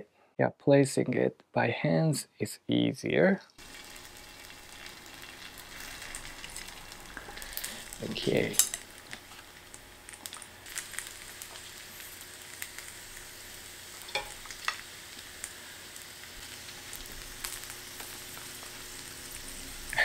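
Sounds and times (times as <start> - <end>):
oil sizzling on hot plate: 3.6 - 20.0.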